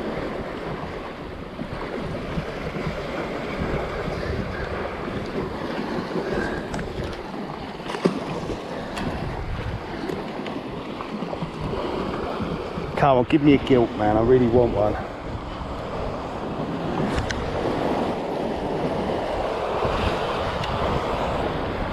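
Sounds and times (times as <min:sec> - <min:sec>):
sea waves on rocks: 0:00.0 - 0:21.9
wind buffeting the microphone: 0:00.0 - 0:21.9.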